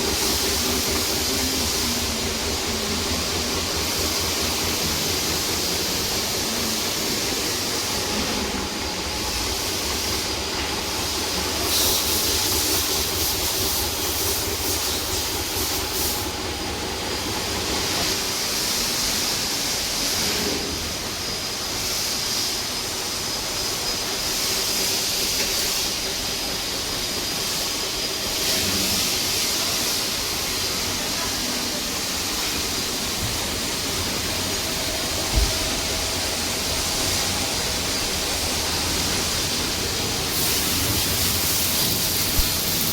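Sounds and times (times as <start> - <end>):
milling machine humming and whining: 0.0 - 42.9.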